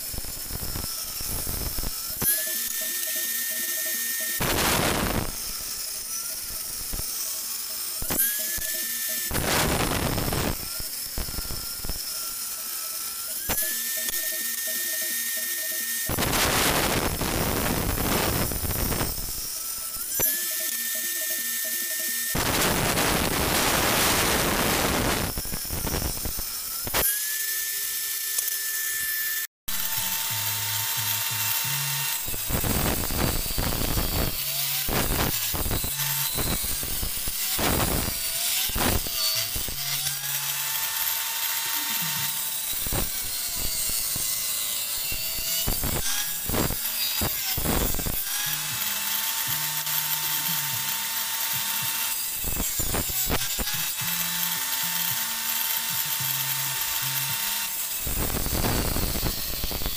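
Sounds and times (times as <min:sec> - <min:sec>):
table saw ripping wood: 0:00.0 - 0:59.9.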